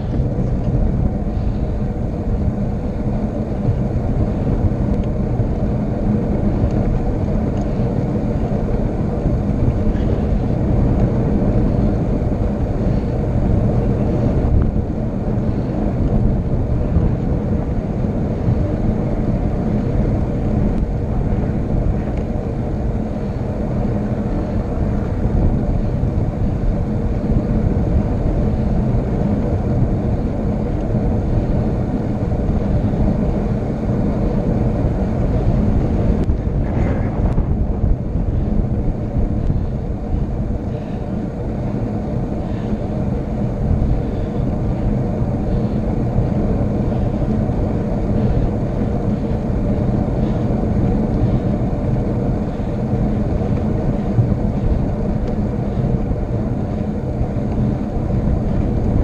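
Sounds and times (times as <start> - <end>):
road noise: 0.0 - 59.0
wind rushing over microphone: 0.0 - 59.0.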